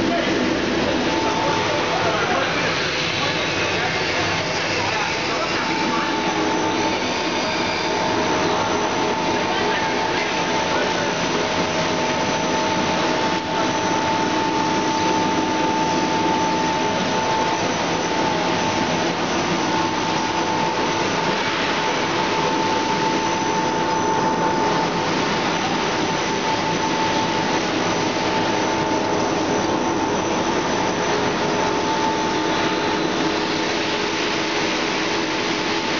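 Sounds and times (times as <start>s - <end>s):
high hum: 0.0s - 35.9s
machinery whirring: 0.0s - 35.9s.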